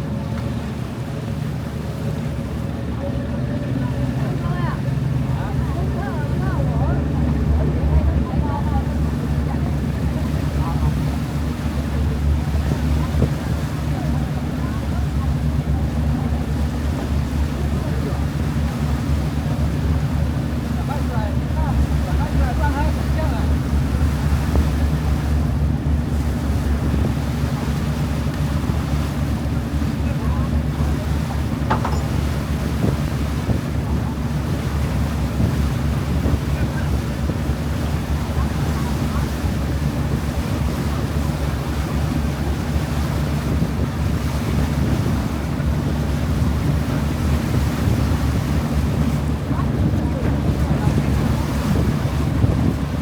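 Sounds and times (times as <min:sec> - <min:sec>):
boat engine running: 0:00.0 - 0:53.0
water noise: 0:00.0 - 0:53.0
wind buffeting microphone: 0:00.0 - 0:53.0.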